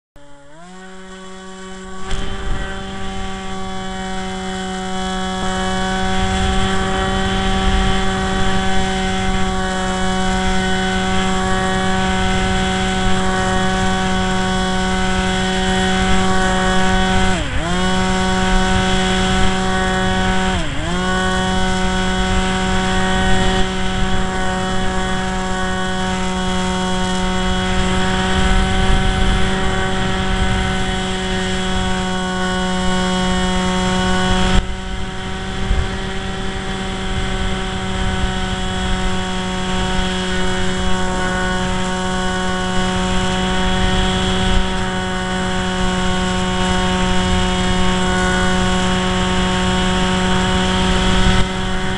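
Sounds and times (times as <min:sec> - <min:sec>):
model plane electric motor: 0:00.2 - 0:51.9
wind rumbling on microphone: 0:00.6 - 0:51.9.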